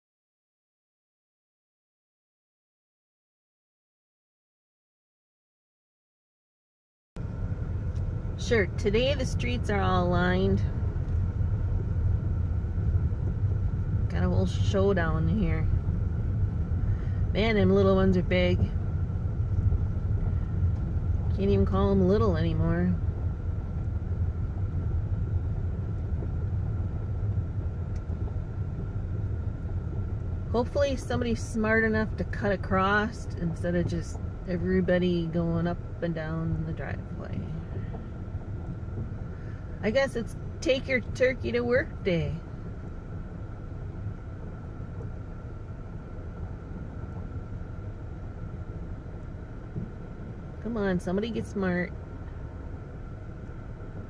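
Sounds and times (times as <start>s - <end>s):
vehicle engine rumbling: 7.2s - 54.0s.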